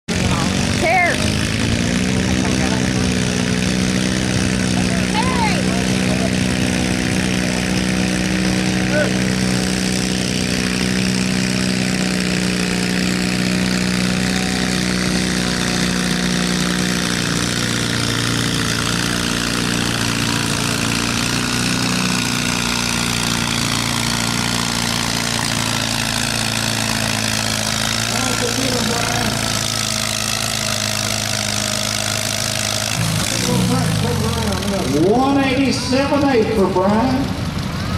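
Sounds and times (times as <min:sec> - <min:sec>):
tractor engine running at high speed: 0:00.0 - 0:37.9.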